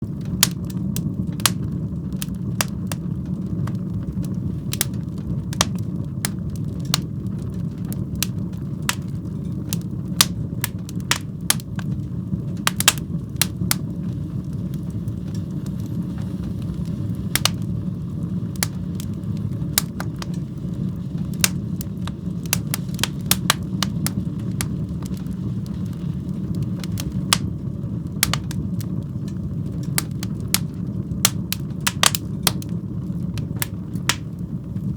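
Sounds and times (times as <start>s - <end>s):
burning logs popping and crackling: 0.0s - 34.9s
fire flames rumbling: 0.0s - 34.9s.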